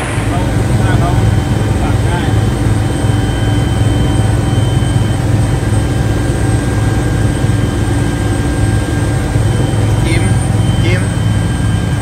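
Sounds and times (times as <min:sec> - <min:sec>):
helicopter rotor and turbine drone: 0:00.0 - 0:12.0
thin high whine: 0:00.0 - 0:12.0.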